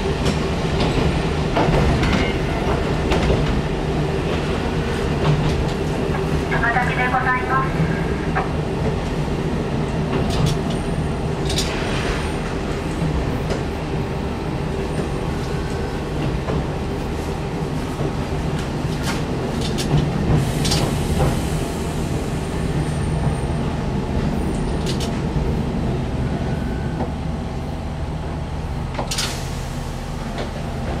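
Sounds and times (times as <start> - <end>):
wheels clacking on rails: 0.0 - 14.0, 14.6 - 27.1
railcar engine hum: 0.0 - 31.0.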